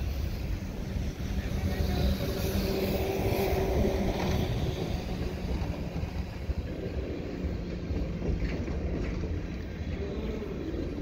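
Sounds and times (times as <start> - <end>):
freight train rumble: 0.0 - 11.0
train wheels clacking: 0.0 - 11.0.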